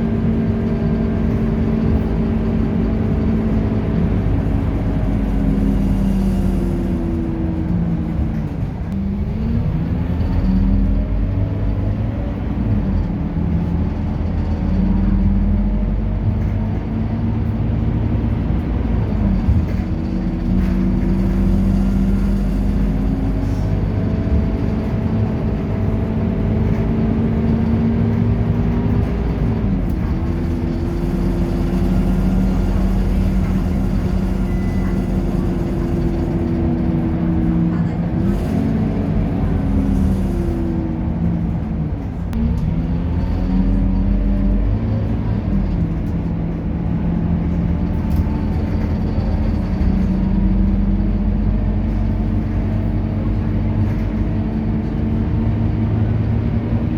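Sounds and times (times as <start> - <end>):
bus diesel engine pulling: 0.0 - 56.9.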